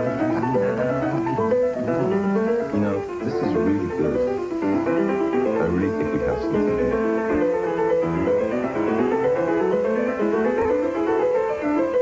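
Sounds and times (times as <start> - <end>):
solo piano classical piece: 0.0 - 12.0.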